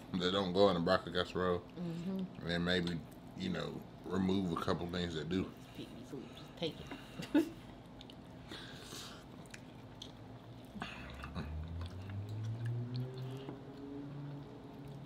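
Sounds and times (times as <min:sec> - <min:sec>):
close chewing and mouth sounds: 0:00.0 - 0:15.0.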